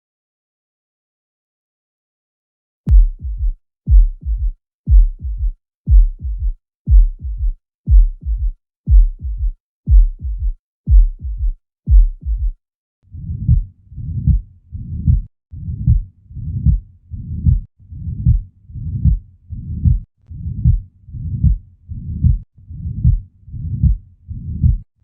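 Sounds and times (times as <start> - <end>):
heartbeat through stethoscope: 2.9 - 12.6, 13.2 - 24.9
longer noisier heart sound: 2.9 - 24.9.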